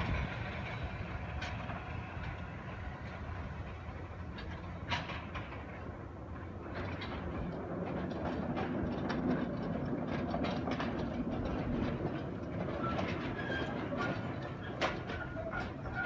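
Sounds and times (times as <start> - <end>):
train rumbling along track: 0.0 - 16.0
wheels clacking over rail joints: 0.0 - 16.0.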